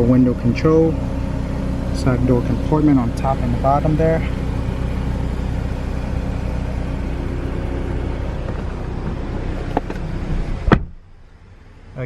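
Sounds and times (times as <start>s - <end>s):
car idling: 0.0s - 12.0s.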